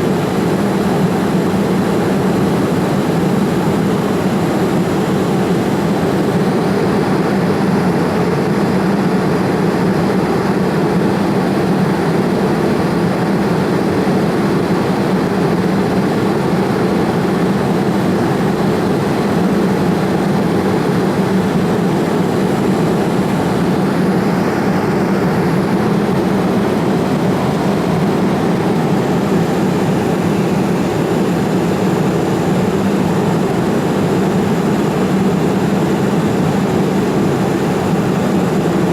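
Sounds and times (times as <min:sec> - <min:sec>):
airplane cabin engine noise: 0:00.0 - 0:38.9.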